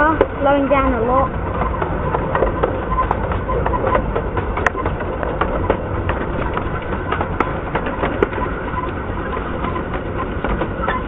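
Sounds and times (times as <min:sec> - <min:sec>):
carriage wheels rumbling: 0:00.0 - 0:11.0
rail clicks and clacks: 0:00.0 - 0:11.0.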